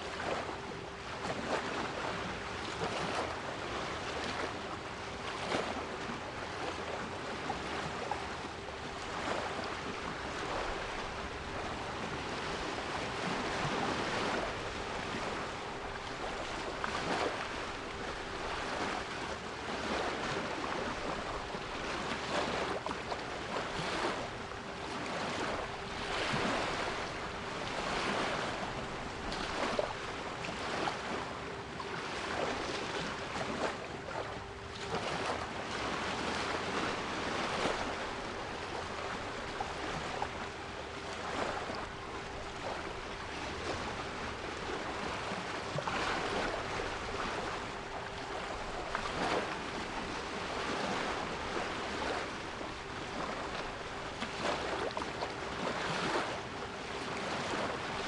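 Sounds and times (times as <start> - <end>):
sea waves washing: 5.3 - 58.0.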